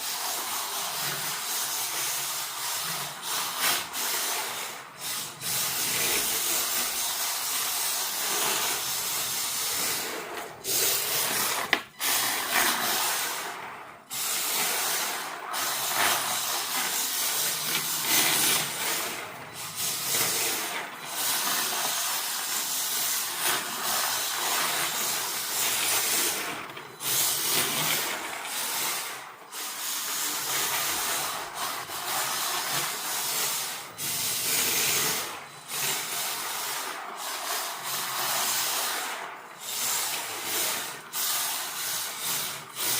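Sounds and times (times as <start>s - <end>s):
toy car tyres sliding on floor: 0.0s - 42.9s.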